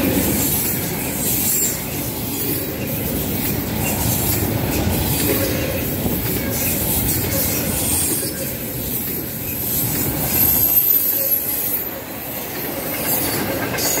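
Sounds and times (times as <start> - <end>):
train wheels rumbling on rails: 0.0 - 14.0
high wheel squeal: 0.3 - 14.0.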